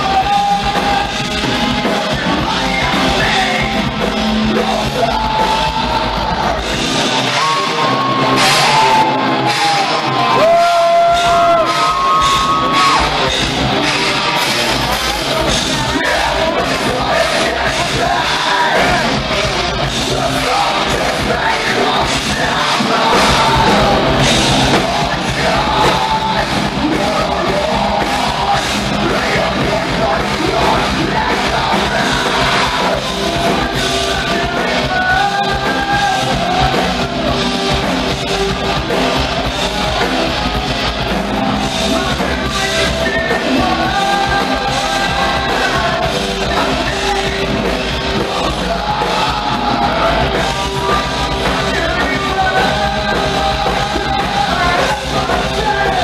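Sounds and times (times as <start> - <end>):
hard rock band playing live: 0.0 - 56.0
lead singer vocals: 0.0 - 56.0.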